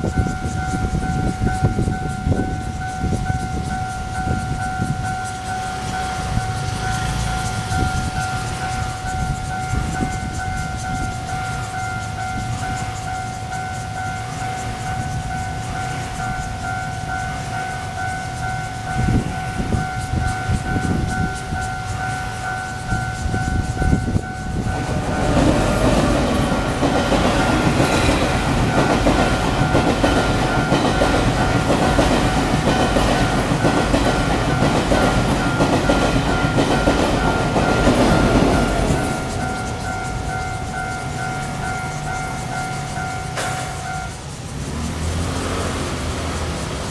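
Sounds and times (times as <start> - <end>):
train passing with rail clatter: 0.0 - 46.9.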